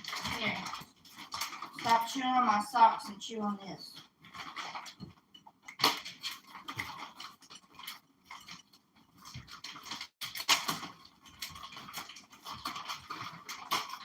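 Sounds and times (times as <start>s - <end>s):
dog chewing and gnawing: 0.0s - 2.3s, 4.0s - 14.0s.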